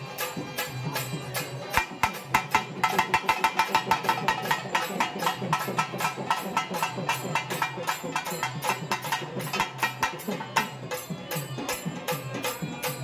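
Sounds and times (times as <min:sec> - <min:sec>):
barrel drums beating fast: 0:01.7 - 0:13.0.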